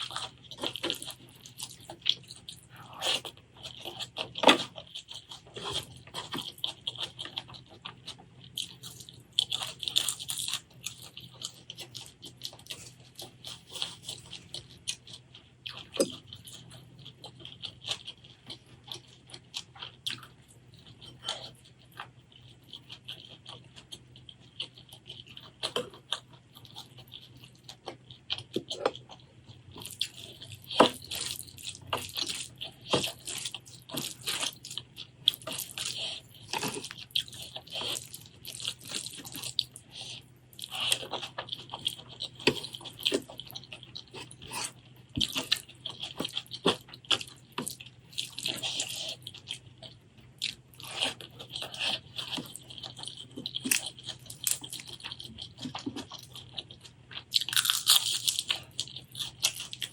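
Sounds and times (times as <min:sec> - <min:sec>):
food crunching: 0:00.0 - 0:59.9
wet chewing: 0:00.0 - 0:59.9.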